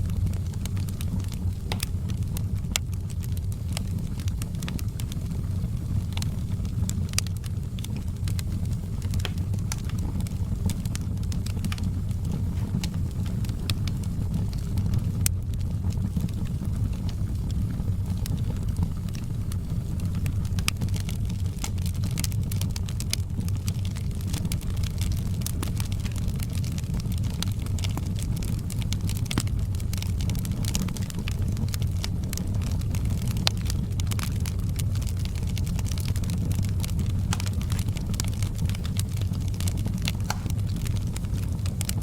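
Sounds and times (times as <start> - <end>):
fire rumbling: 0.0 - 42.0
logs crackling and popping: 0.0 - 42.0.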